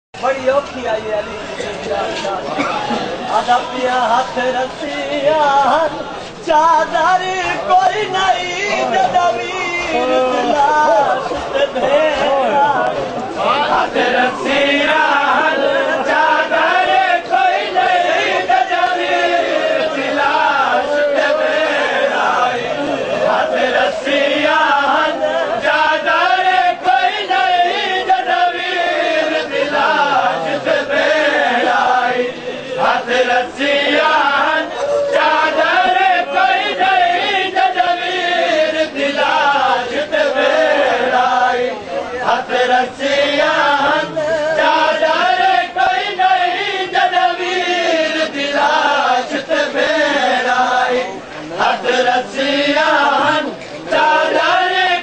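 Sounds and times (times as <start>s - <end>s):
crowd of men chanting: 1.2s - 55.0s.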